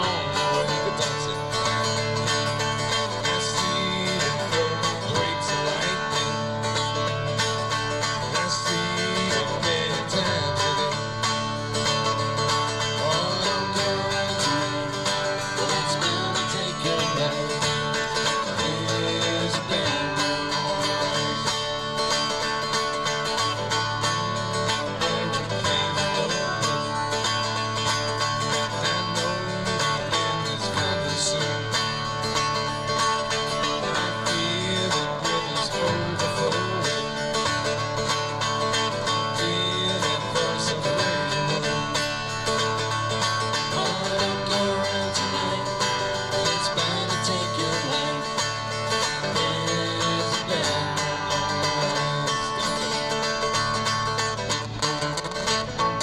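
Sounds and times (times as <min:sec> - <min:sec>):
acoustic guitars playing: 0:00.0 - 0:56.0.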